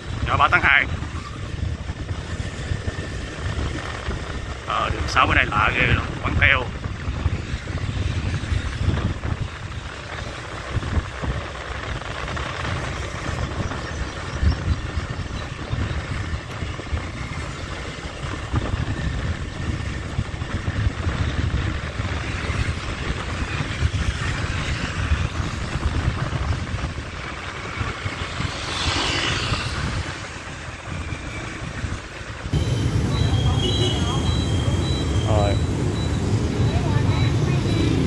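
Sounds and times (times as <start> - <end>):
motorbike engine and road noise: 0.0 - 38.0
wind rumble on microphone: 0.0 - 38.0.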